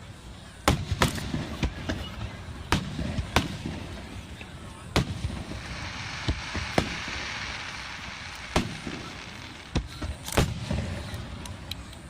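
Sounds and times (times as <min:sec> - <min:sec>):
fireworks booming: 0:00.7 - 0:11.4
fireworks hissing crackle: 0:00.9 - 0:12.0.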